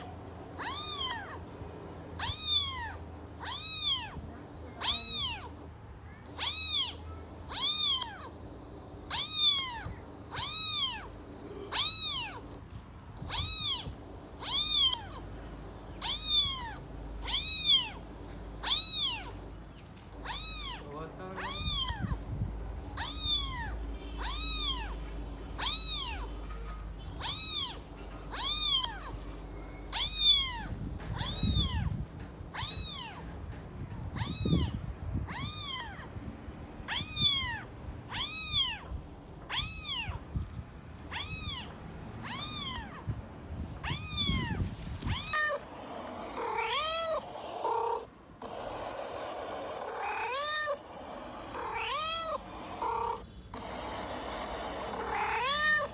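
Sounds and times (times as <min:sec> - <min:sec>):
cat meowing: 0:00.0 - 0:01.5, 0:02.2 - 0:05.6, 0:06.2 - 0:08.4, 0:09.1 - 0:12.6, 0:13.2 - 0:15.3, 0:16.0 - 0:19.5, 0:20.2 - 0:36.2, 0:36.9 - 0:43.2, 0:43.8 - 0:48.7, 0:49.7 - 0:55.9.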